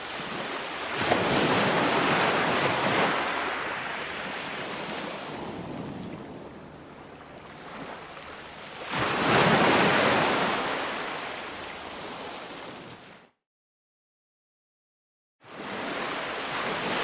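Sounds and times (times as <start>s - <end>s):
ocean waves on shore: 0.0s - 13.3s, 15.4s - 17.0s.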